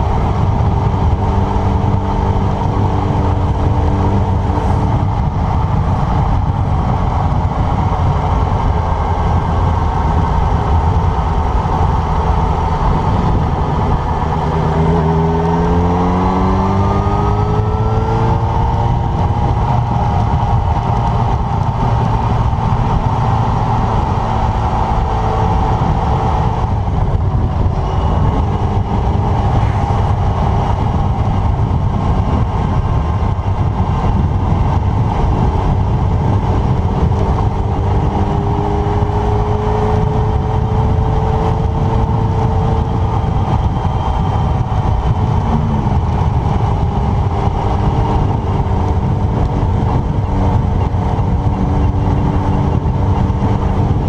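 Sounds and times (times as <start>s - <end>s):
motorcycle engine revving: 0.0s - 54.0s
wind rumble on microphone: 0.0s - 54.0s.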